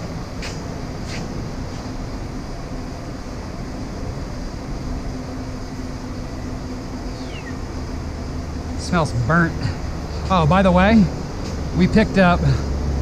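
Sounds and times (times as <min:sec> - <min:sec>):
faint constant hum: 0:00.0 - 0:13.0
low mechanical drone: 0:00.0 - 0:13.0.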